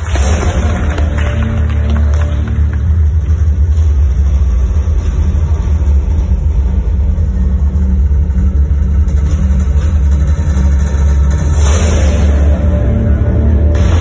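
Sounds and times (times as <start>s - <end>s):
deep bass drone music: 0.0s - 14.0s.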